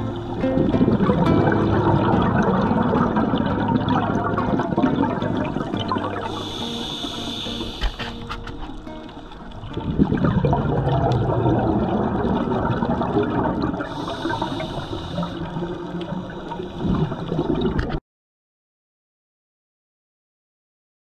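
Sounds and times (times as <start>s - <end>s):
underwater bubbling: 0.0s - 18.0s.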